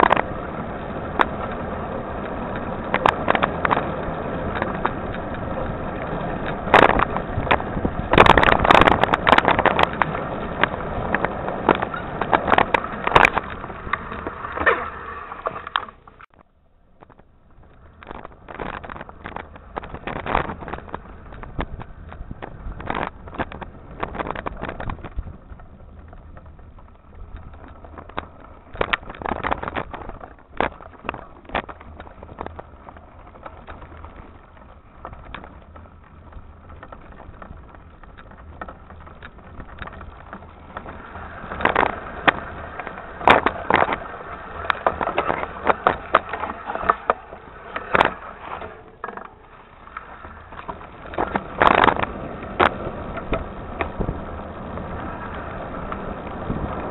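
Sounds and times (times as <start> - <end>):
tyres crunching over dirt and stones: 0.0 - 16.4, 17.0 - 56.9
bike knocks and rattles: 0.0 - 56.9.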